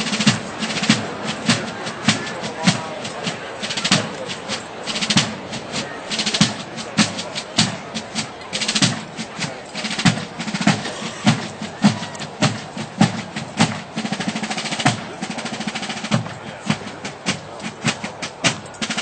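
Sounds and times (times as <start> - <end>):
heavy low drum thumps: 0.0 - 18.8
snare drum rolls: 0.0 - 19.0.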